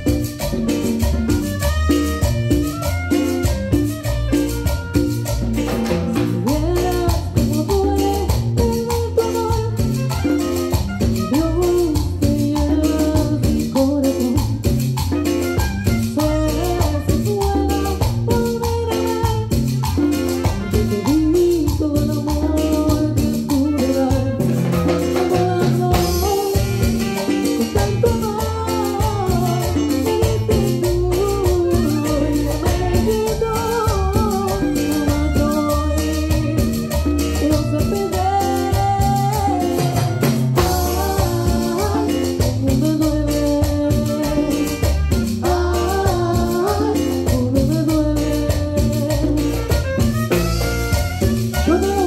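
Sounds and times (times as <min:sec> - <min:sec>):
saxophone melody: 0:00.0 - 0:13.1, 0:15.0 - 0:52.0
congas: 0:00.0 - 0:52.0
latin band playing cumbia: 0:00.0 - 0:52.0
shaken hand percussion: 0:00.0 - 0:52.0.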